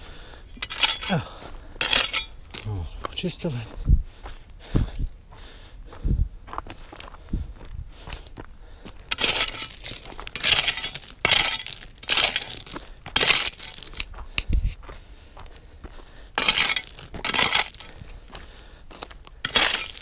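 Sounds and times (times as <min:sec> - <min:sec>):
footsteps on rocky gravel: 0:00.6 - 0:20.0.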